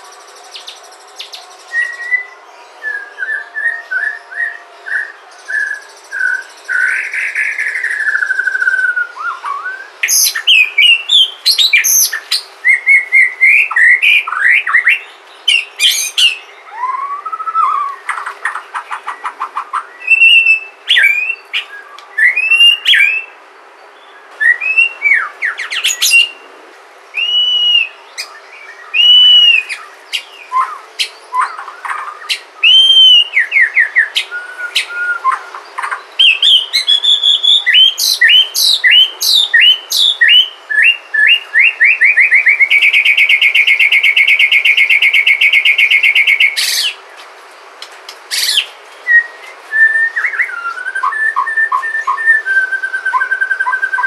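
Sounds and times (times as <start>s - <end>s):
bird singing whistles and trills: 0.0s - 23.4s, 24.0s - 26.4s, 27.1s - 47.0s, 48.3s - 54.0s.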